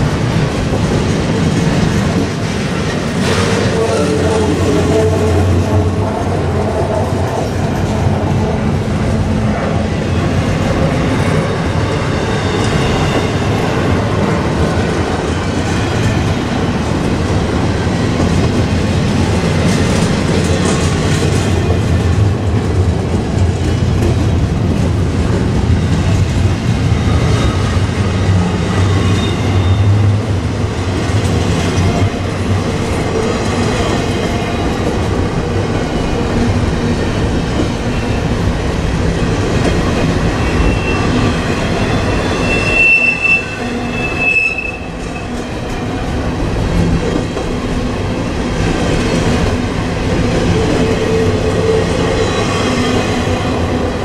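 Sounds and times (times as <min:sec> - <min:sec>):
train wheels clattering on rails: 0:00.0 - 0:43.1, 0:44.8 - 0:54.0.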